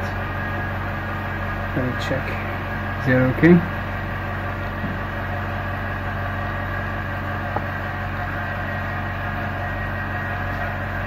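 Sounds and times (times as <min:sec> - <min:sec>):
electric machine hum: 0:00.0 - 0:11.0.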